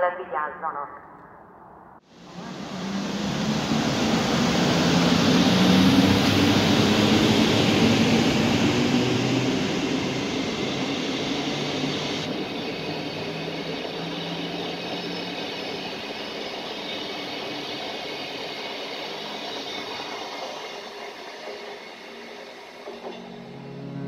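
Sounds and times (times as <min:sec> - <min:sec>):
electric locomotive humming: 0:02.0 - 0:24.0
train coaches rolling on rails: 0:02.1 - 0:23.8.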